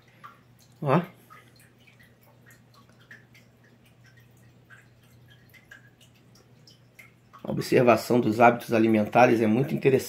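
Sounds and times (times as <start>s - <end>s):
low steady hum: 0.0s - 10.0s
small drips and ticks: 0.0s - 10.0s.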